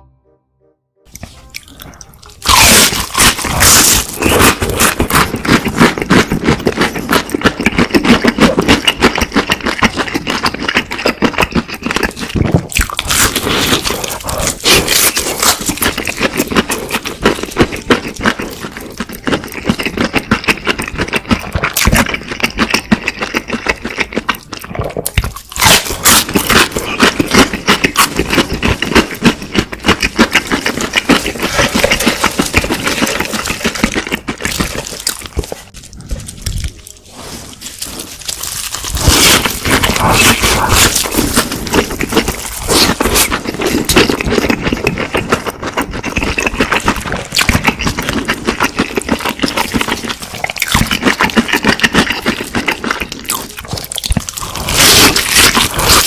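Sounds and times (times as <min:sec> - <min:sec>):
crunching fried chicken: 0:01.2 - 0:56.0.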